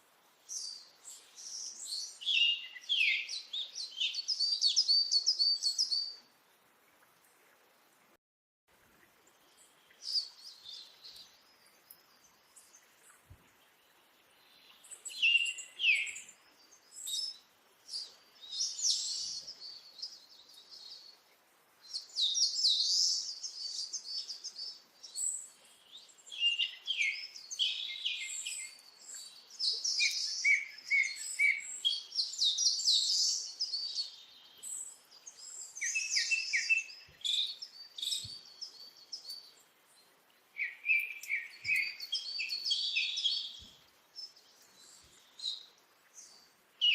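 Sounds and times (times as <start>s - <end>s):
birds chirping and twittering: 0.4s - 6.2s, 9.2s - 46.9s.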